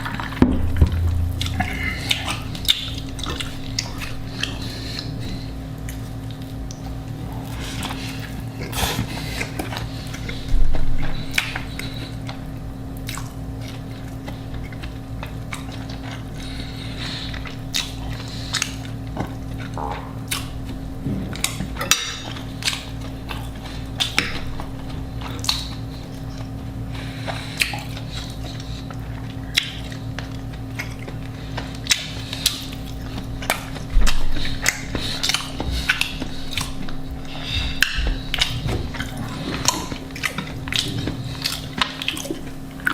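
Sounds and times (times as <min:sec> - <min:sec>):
food being bitten and chewed: 0:00.0 - 0:42.9
steady low hum: 0:00.0 - 0:42.9.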